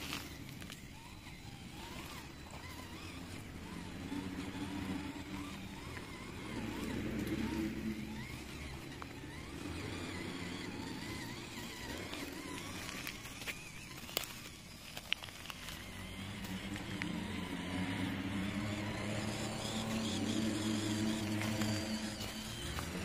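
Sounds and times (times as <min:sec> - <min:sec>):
small electric motor and gears whining: 0:00.0 - 0:23.0.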